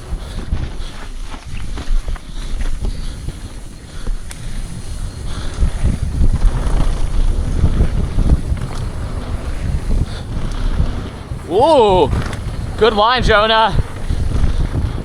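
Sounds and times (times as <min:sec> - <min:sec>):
bike rattles and knocks: 0:00.0 - 0:15.0
mountain bike rumbling over dirt: 0:00.0 - 0:15.0
wind buffeting microphone: 0:00.0 - 0:15.0.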